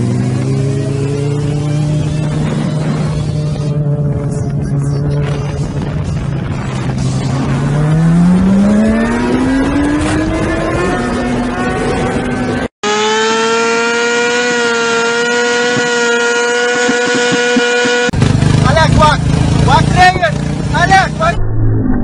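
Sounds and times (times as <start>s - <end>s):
motorcycle engine revving: 0.0s - 21.4s.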